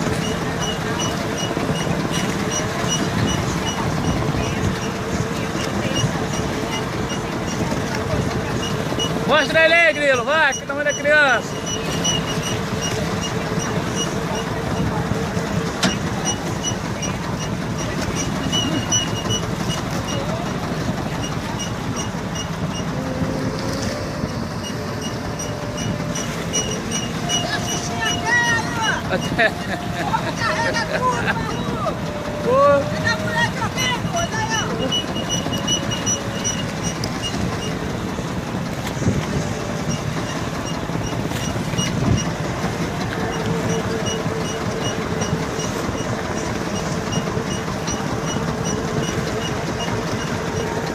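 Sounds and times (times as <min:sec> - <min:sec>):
boat motor running: 0:00.0 - 0:50.9.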